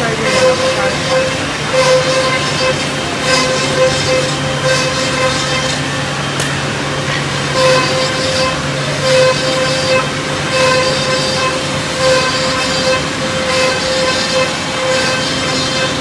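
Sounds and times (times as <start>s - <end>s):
machine spindles whining: 0.0s - 16.0s.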